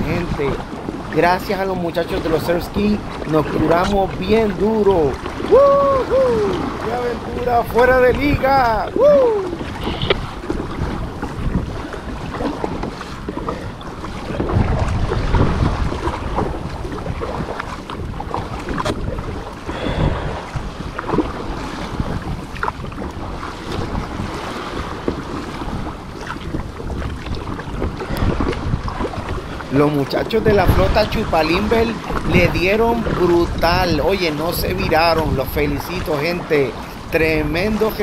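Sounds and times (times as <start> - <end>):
water splashing around a kayak: 0.0 - 38.0
wind buffeting the microphone: 0.0 - 38.0.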